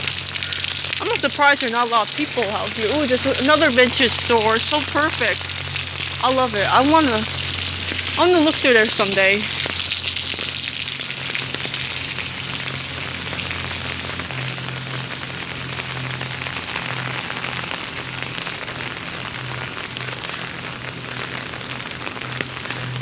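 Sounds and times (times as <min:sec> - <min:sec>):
low steady hum: 0:00.0 - 0:20.4
heavy rain pattering: 0:00.0 - 0:23.0.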